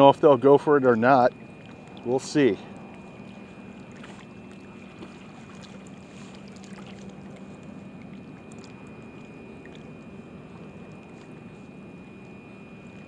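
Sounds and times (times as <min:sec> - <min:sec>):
low steady hum: 0:00.0 - 0:13.0
wind: 0:00.0 - 0:13.0
lapping water: 0:00.9 - 0:13.0.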